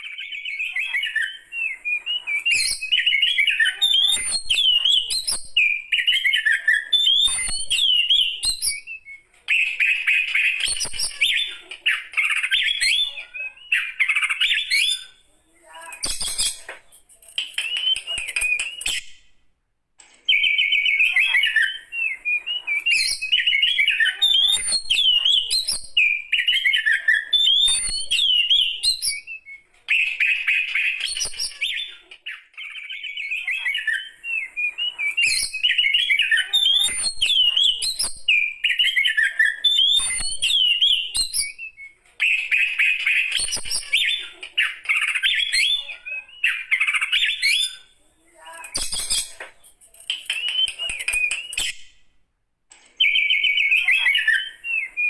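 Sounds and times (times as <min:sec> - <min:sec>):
songbird whistles and trills: 0:00.0 - 0:19.3, 0:20.0 - 0:52.1, 0:53.0 - 0:55.0.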